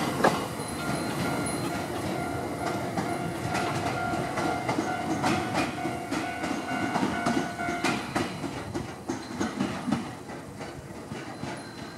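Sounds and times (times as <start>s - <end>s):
level-crossing warning bell: 0.0s - 9.7s, 11.1s - 11.9s
train rolling rumble: 0.0s - 11.9s
train wheels clacking over rail joints: 0.0s - 11.9s.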